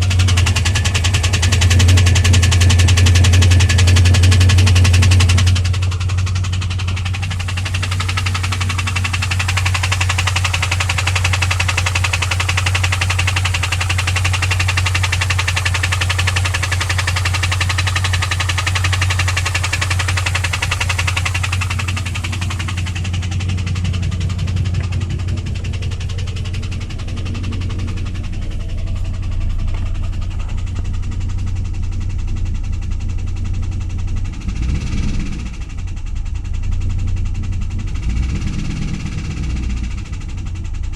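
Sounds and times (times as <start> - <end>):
engine ticking knock: 0.0 - 40.9.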